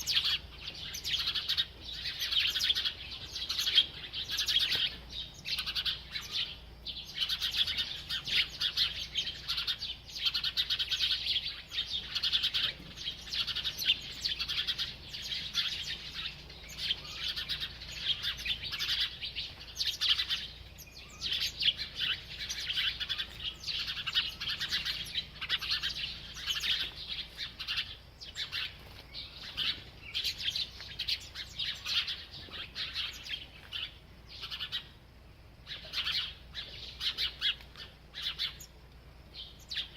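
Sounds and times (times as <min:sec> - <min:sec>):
bird chirping rapidly: 0:00.0 - 0:35.0.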